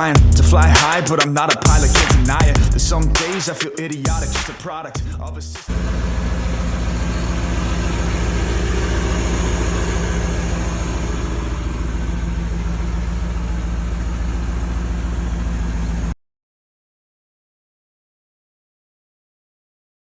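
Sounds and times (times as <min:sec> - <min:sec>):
truck engine idling: 0:00.0 - 0:16.2.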